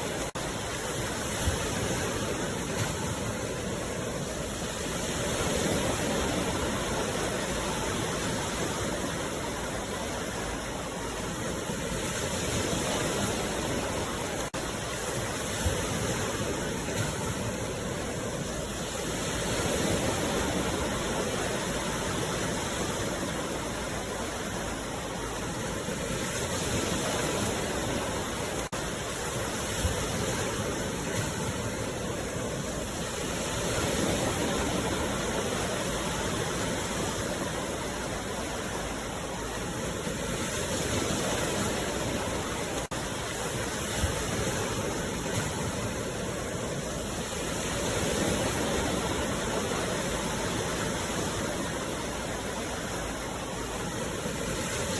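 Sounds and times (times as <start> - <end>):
sea waves washing ashore: 0.0 - 54.9.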